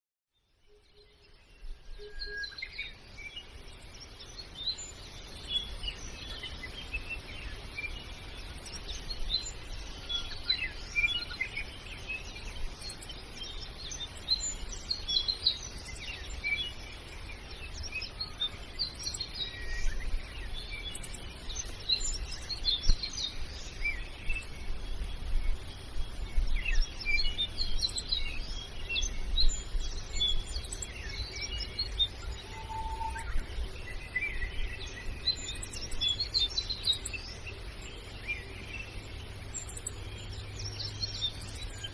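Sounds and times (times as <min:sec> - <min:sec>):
small birds chirping: 0:00.3 - 0:41.9.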